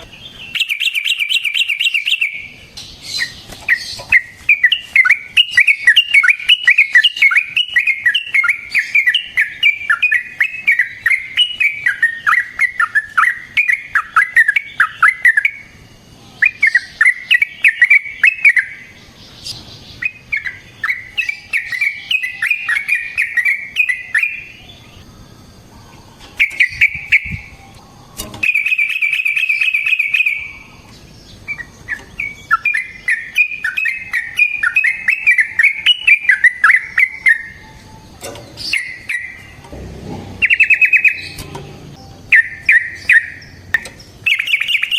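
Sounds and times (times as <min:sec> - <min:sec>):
bulbul chattering song: 0:00.0 - 0:44.9.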